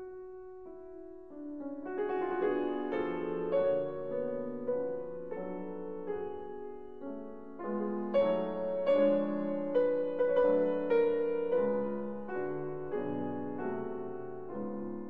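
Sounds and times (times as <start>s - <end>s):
instrumental music sustained notes: 0.0s - 15.0s.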